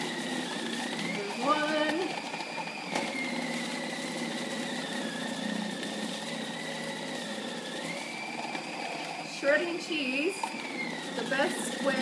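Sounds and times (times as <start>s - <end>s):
food processor motor whine: 0.0s - 12.0s.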